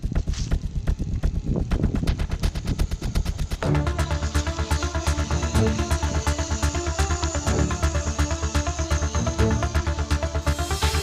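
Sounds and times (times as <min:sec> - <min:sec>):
music with fast percussive beat: 0:00.1 - 0:11.0.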